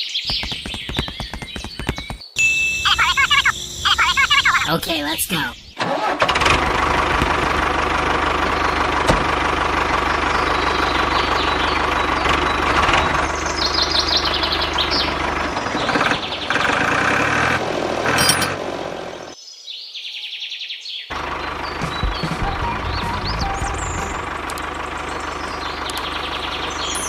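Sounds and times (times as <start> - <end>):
birds chirping: 0.0 - 5.8, 6.9 - 27.0
small tractor engine running: 0.3 - 4.6, 5.8 - 19.4, 21.1 - 27.0.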